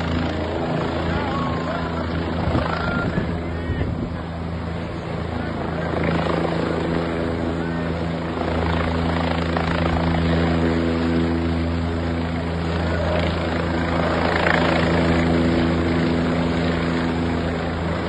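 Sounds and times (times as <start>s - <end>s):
helicopter flying close by: 0.0s - 18.0s.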